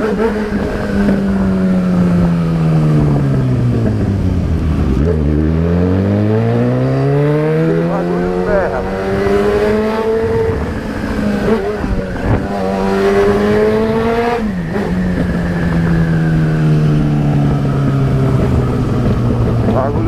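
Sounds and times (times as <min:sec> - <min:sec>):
motorcycle engine shifting gears: 0:00.0 - 0:20.0.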